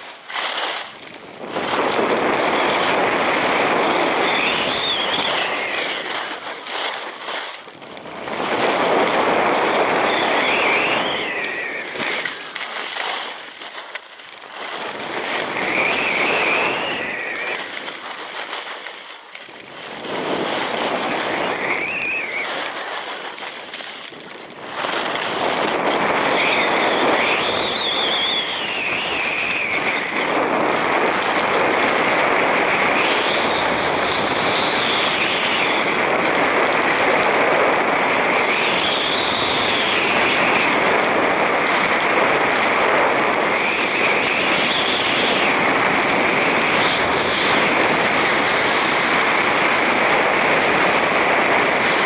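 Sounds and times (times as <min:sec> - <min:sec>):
ski edge screech: 0:00.0 - 0:30.6, 0:32.4 - 0:41.2, 0:41.8 - 0:50.1
skis scraping on hard snow: 0:00.0 - 0:52.0
wind over microphone: 0:00.0 - 0:52.0.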